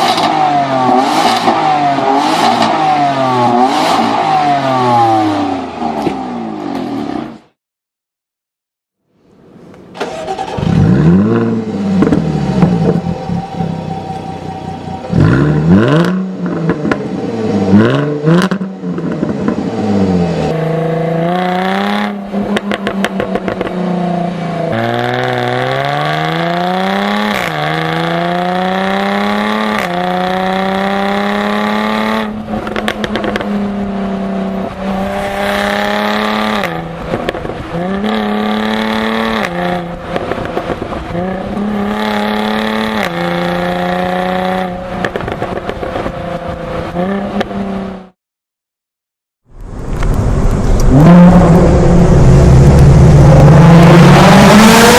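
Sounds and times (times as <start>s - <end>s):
car engine revving and accelerating: 0.0s - 7.4s, 10.3s - 48.2s, 49.9s - 54.9s.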